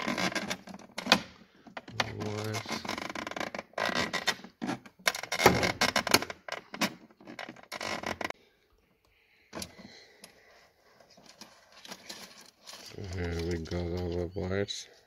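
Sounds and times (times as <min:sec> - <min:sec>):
tool scraping wires and plastic: 0:00.0 - 0:08.4, 0:09.6 - 0:14.4.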